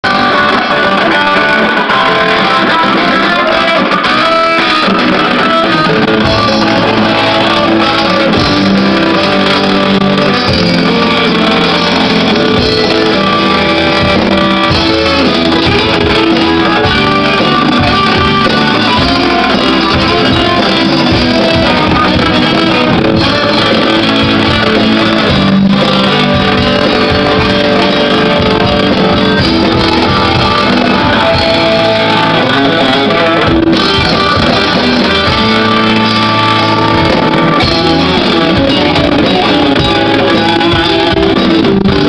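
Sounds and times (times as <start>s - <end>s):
bass guitar: 0.0s - 42.0s
electric guitar: 0.0s - 42.0s.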